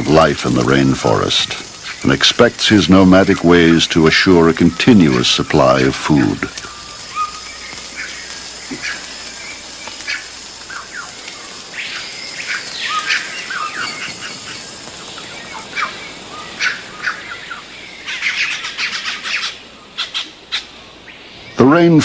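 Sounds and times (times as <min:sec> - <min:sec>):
birds chirping and whistling: 0:00.0 - 0:21.8.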